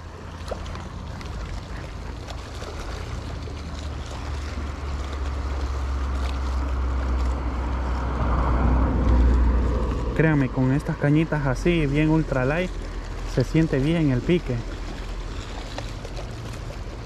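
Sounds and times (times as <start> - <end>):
low rumble: 0.0 - 17.0
small waves: 0.0 - 17.0
wind: 0.0 - 17.0.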